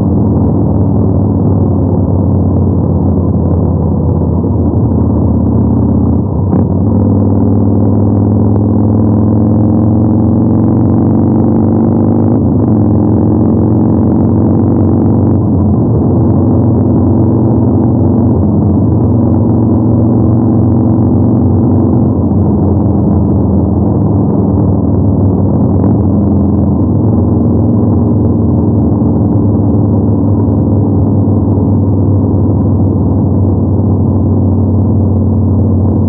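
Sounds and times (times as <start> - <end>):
motorcycle engine cruising: 0.0 - 36.0.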